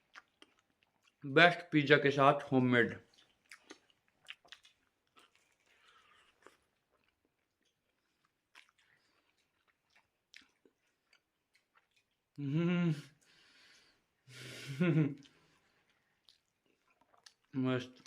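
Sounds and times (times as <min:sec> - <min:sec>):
person chewing pizza: 0:00.0 - 0:01.3, 0:02.9 - 0:18.0.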